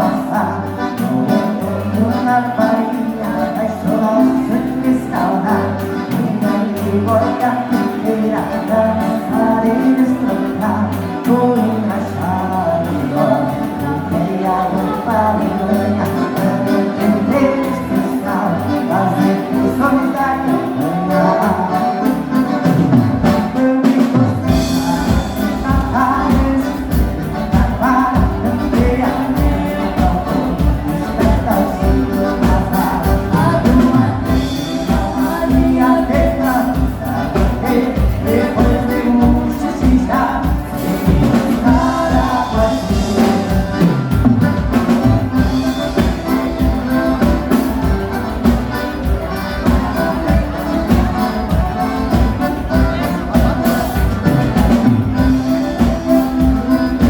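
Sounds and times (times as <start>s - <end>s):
live dance music: 0.0s - 57.0s
person singing: 0.0s - 57.0s.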